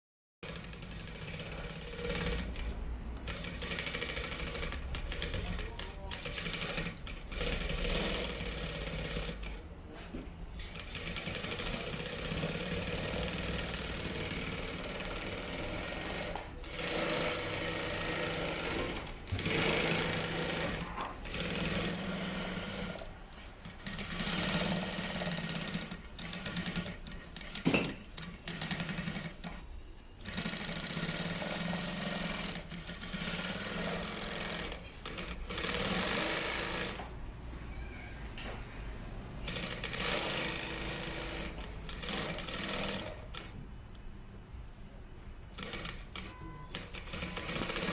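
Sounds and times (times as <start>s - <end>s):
sewing machine stitching: 0.4s - 37.1s, 39.4s - 43.6s, 45.5s - 47.9s.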